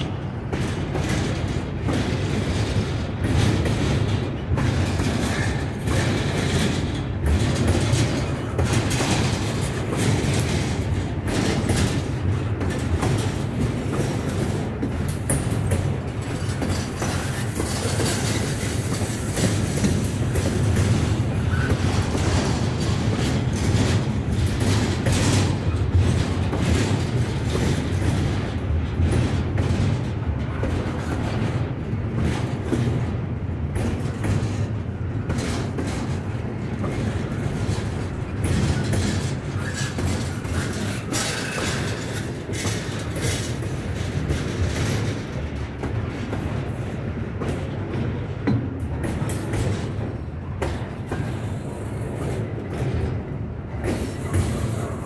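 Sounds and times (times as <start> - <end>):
freight train rumbling: 0.0 - 55.0
wheels clicking over rail joints: 0.0 - 55.0.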